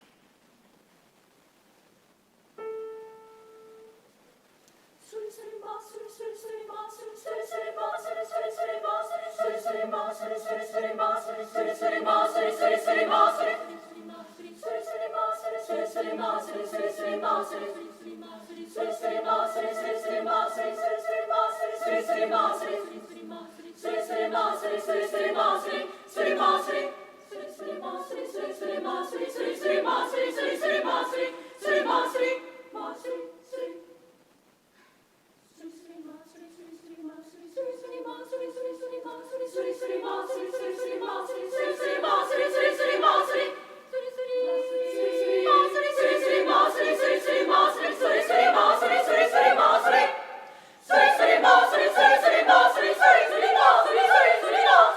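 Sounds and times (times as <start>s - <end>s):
women's choir singing: 5.0s - 34.1s, 35.5s - 54.9s.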